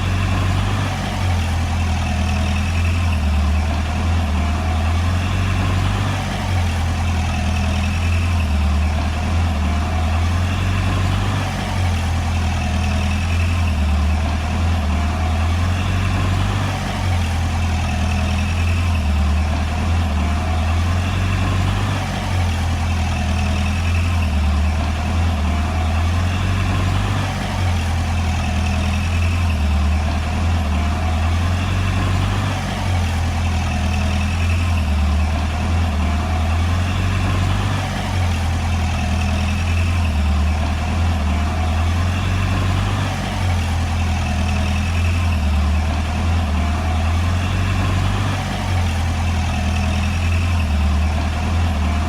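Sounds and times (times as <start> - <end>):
bulldozer diesel engine droning: 0.0 - 52.0.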